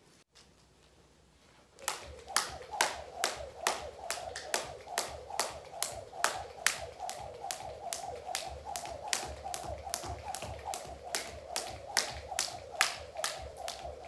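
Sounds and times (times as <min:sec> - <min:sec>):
jump rope slapping floor: 0:01.8 - 0:14.0.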